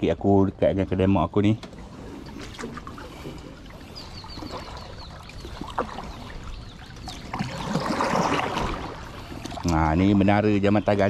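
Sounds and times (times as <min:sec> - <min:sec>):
floodwater sloshing and splashing: 0:01.4 - 0:11.0.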